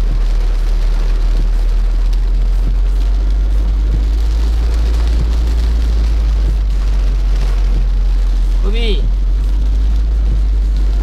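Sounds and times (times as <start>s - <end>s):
car low rumble: 0.0s - 11.0s
heavy rain drumming on car roof: 0.0s - 11.0s.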